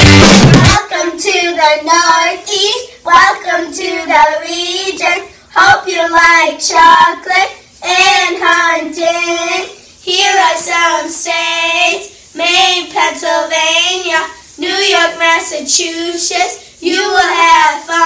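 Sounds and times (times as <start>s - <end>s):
girls singing unaccompanied: 0.0s - 18.0s.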